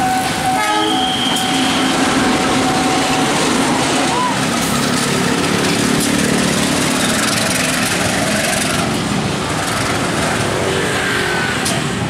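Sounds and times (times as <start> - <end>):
diesel locomotive engine: 0.0 - 12.0.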